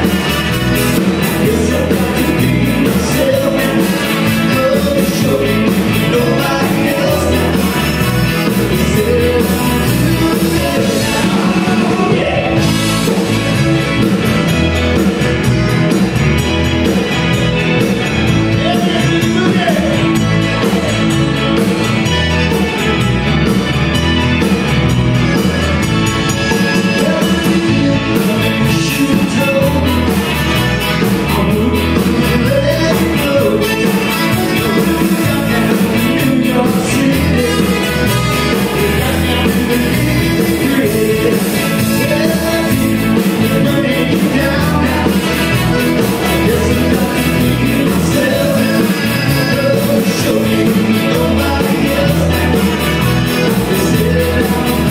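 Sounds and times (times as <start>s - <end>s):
lead vocal singing: 0.0s - 13.2s, 18.5s - 21.7s, 26.4s - 54.9s
live rock band playing: 0.0s - 54.9s.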